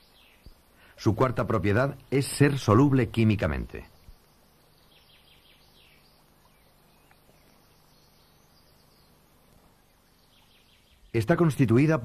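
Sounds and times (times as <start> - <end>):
soft bird chirps: 0.0 - 1.1, 2.2 - 11.2.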